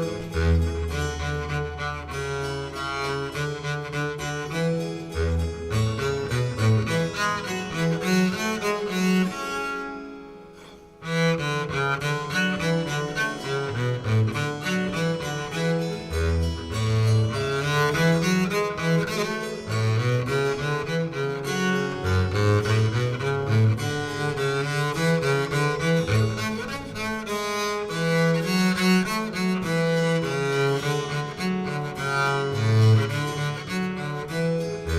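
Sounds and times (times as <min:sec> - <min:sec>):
bowed string music: 0:00.0 - 0:34.9.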